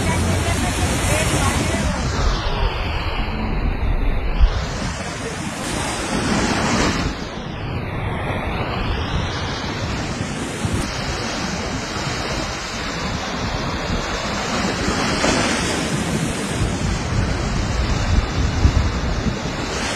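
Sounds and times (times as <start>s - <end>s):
sea waves breaking on shore: 0.0s - 19.9s
wind buffeting microphone: 0.0s - 19.9s.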